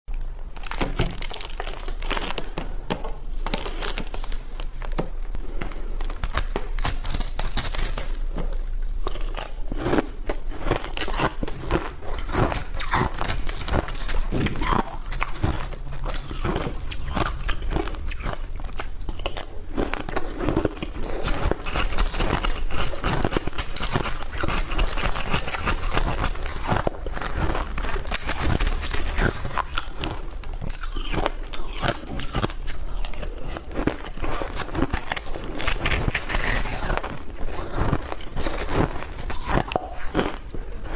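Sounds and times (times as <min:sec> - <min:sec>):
chewing hard ice: 0:05.4 - 0:40.9.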